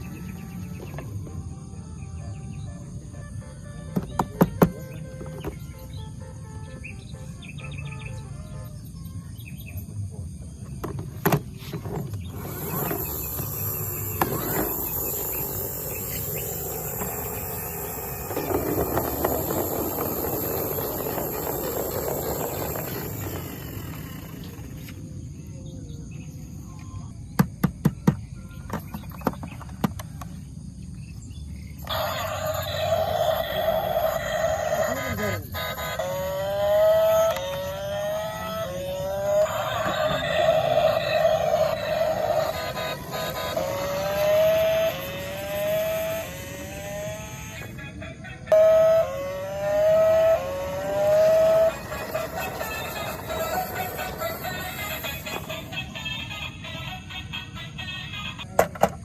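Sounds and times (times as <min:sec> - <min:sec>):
electronic toy engine tone: 0:00.0 - 0:09.9, 0:10.8 - 0:25.2, 0:31.8 - 0:58.6.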